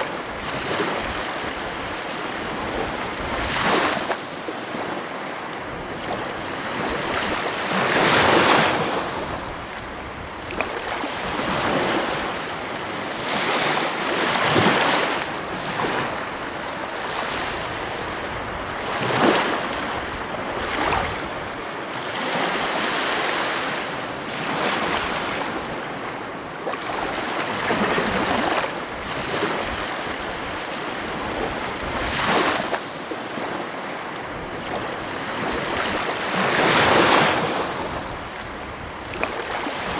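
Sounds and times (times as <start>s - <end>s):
ocean waves crashing: 0.0s - 39.9s.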